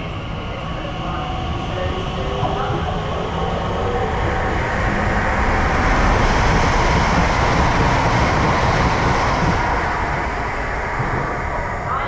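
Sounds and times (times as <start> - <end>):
train passing on track: 0.0 - 12.0.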